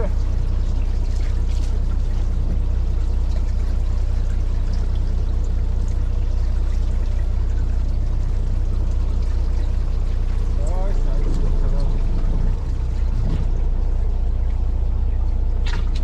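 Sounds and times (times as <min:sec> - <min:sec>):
boat engine humming: 0:00.0 - 0:16.0
water splashing against hull: 0:00.0 - 0:16.0.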